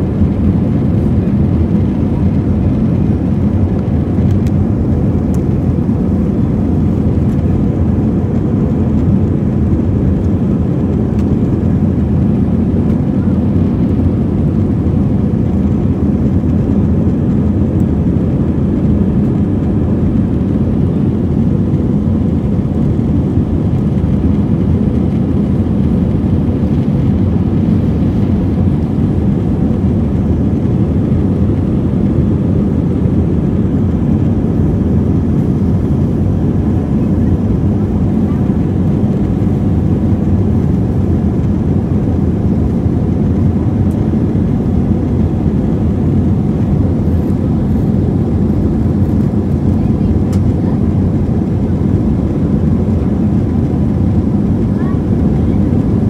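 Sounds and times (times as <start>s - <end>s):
jet engine and airflow roar: 0.0s - 56.0s.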